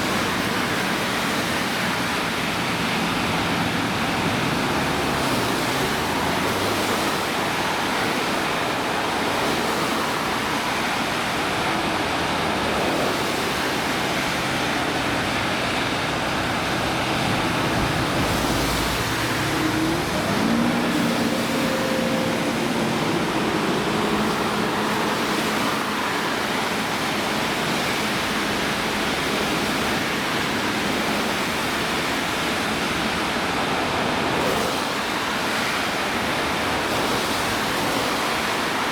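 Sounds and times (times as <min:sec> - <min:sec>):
vehicle engine hum: 0:00.0 - 0:34.3
road traffic: 0:00.0 - 0:38.9.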